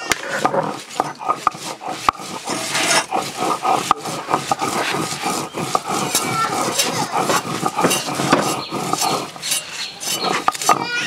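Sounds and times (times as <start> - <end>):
stone rasping on stone: 0.0 - 11.0
stone roller knocking on slab: 0.0 - 11.0.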